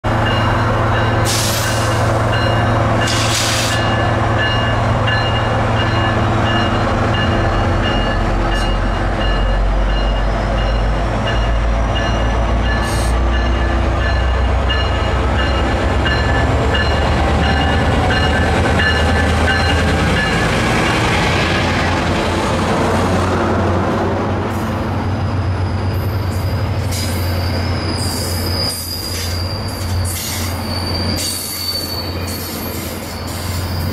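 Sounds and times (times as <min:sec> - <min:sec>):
diesel locomotive engine drone: 0:00.0 - 0:33.9
train wheels squealing: 0:01.2 - 0:20.4, 0:24.6 - 0:33.9.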